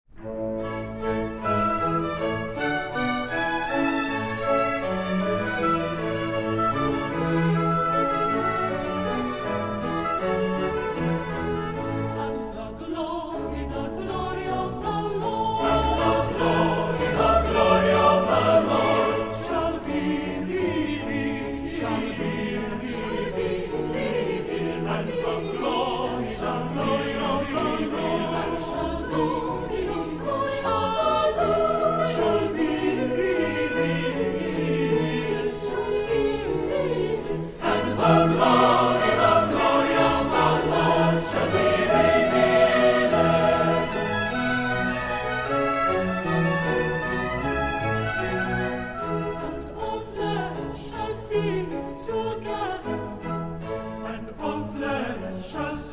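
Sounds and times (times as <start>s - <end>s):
orchestral accompaniment: 0.1s - 55.9s
choir singing: 0.2s - 55.9s.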